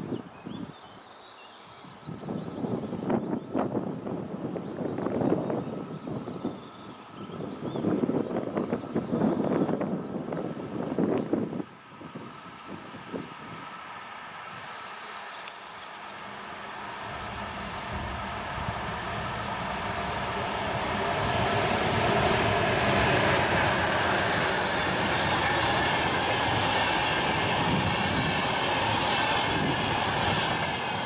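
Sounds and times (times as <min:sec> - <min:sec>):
train passing at speed: 0:01.5 - 0:31.0
wheels rushing on rails: 0:02.2 - 0:31.0.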